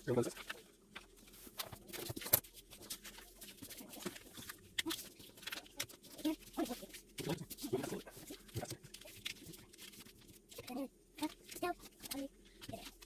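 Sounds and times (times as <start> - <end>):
paper rustling and creasing: 0.1 - 13.0.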